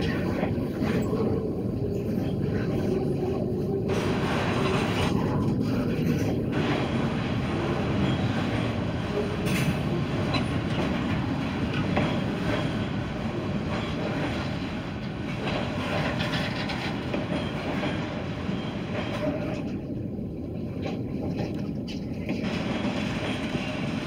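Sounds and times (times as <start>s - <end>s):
train wheels clicking on rails: 0.0s - 20.0s, 20.6s - 24.0s.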